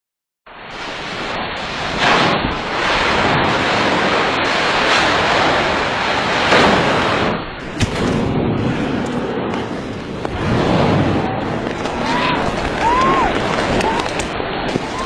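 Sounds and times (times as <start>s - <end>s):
loud steady rushing noise: 0.5s - 15.0s.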